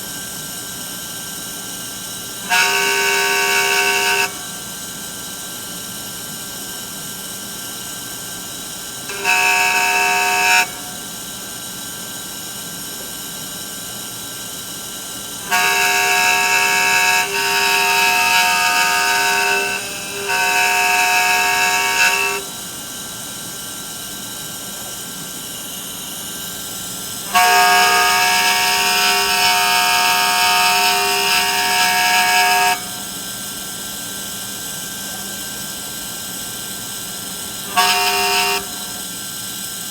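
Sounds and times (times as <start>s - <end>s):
engraving machine motor whine: 0.0s - 39.9s
steady background hum: 0.0s - 39.9s.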